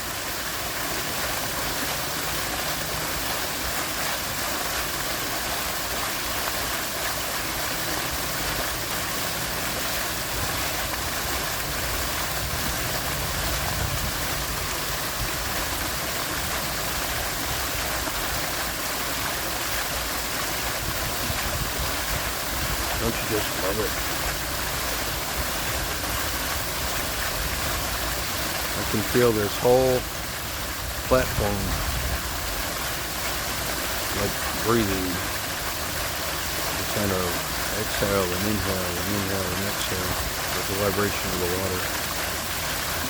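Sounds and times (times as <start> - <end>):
waterfall rushing over boulders: 0.0 - 43.0.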